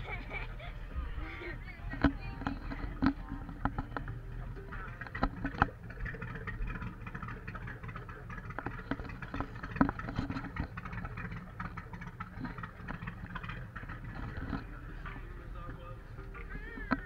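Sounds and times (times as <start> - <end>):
motorboat engine humming: 0.0 - 17.0
sharp knocks and rattles: 1.8 - 17.0.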